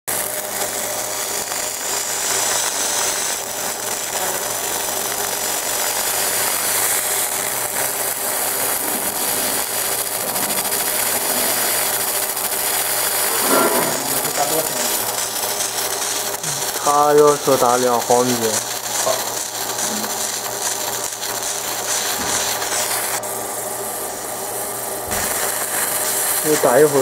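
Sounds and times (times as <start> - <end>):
laser engraving crackling hiss: 0.1 - 27.0.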